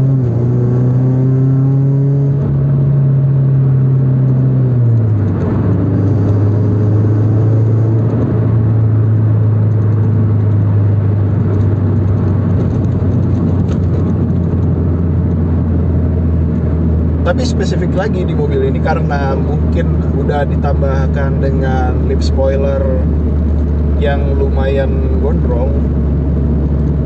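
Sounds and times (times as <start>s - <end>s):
car engine droning: 0.0s - 27.0s
tyre and road noise: 0.0s - 27.0s.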